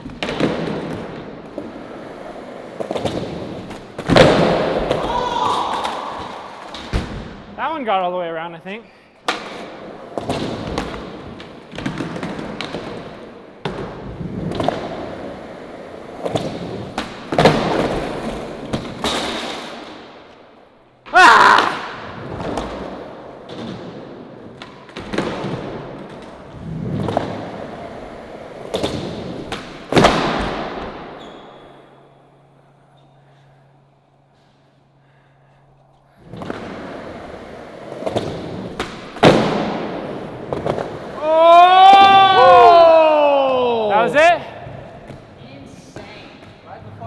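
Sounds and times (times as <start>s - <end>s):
skateboard wheels rolling: 0.0s - 7.4s, 9.1s - 20.4s, 21.6s - 34.3s, 36.0s - 45.4s.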